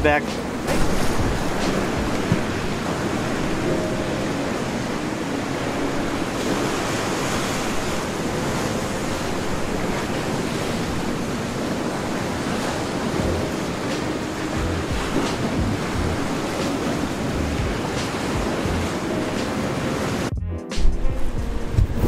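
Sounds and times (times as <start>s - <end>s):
surf washing against rocky shore: 0.0s - 20.3s.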